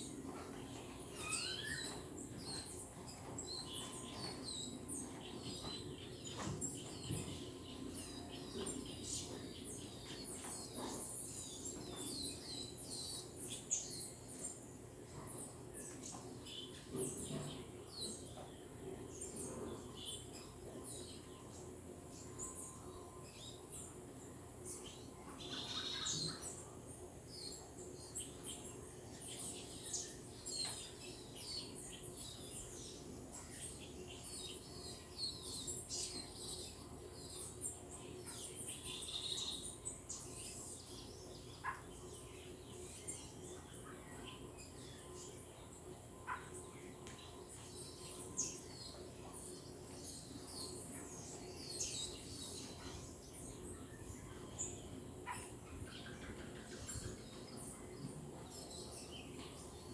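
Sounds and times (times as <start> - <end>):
faint steady hum: 0.0 - 59.9
wild birds chirping: 0.0 - 59.9.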